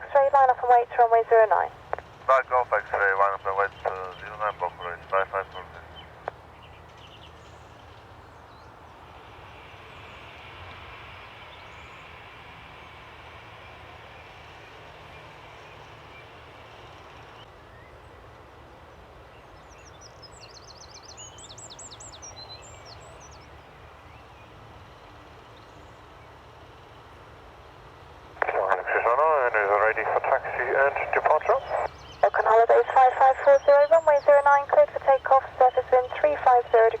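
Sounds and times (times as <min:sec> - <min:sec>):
distant jet engines whining: 0:00.0 - 0:19.3, 0:19.9 - 0:37.0.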